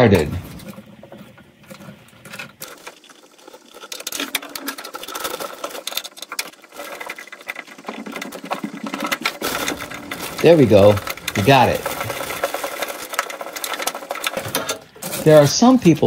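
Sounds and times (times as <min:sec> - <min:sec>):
small metallic clicks and rattling: 0:00.0 - 0:15.8.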